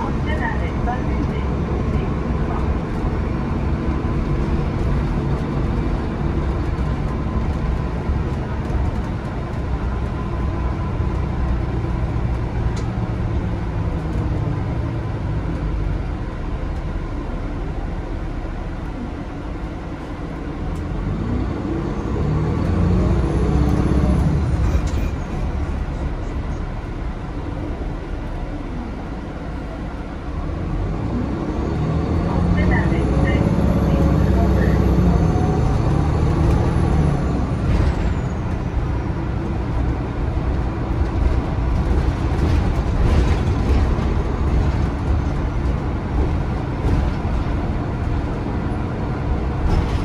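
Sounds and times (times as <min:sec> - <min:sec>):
bus engine: 0:00.0 - 0:50.0
road rumble: 0:00.0 - 0:50.0.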